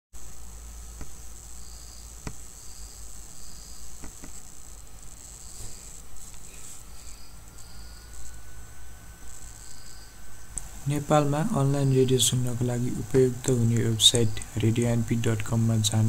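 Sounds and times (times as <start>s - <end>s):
insects chirping: 0.2s - 16.0s
low hum: 0.2s - 16.0s
steady high hiss: 0.2s - 16.0s.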